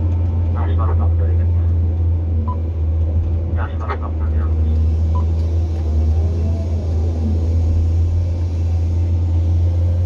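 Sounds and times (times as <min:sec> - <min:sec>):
excavator diesel engine drone: 0:00.0 - 0:10.0.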